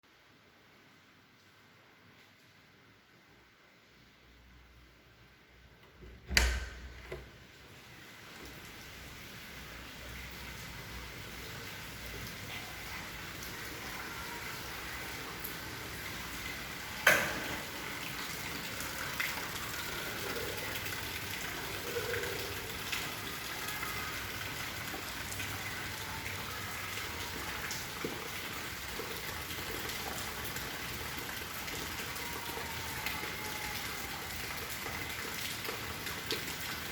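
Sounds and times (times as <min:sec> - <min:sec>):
steady rain falling: 0:06.9 - 0:36.9.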